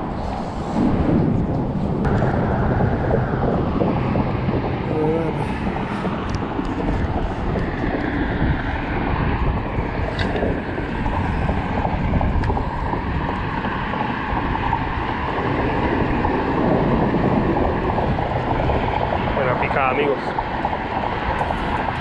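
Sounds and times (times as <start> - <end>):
road traffic rumble: 0.0 - 22.0
wind buffeting microphone: 0.0 - 22.0.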